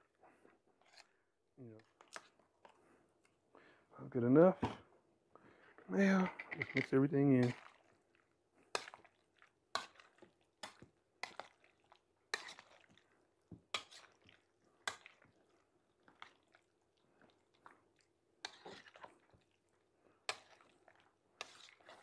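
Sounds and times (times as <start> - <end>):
wet squishing of food mixing: 0.1 - 3.5, 7.4 - 22.0.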